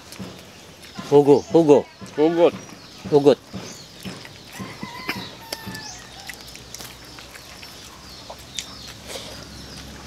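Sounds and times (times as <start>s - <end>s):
birds chirping: 0.0s - 10.0s
people eating by hand: 0.0s - 10.0s.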